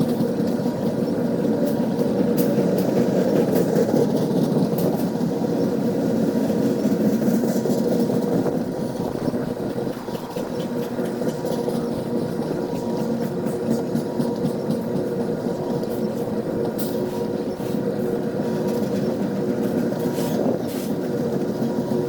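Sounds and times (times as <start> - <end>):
train rolling past: 0.0 - 22.0.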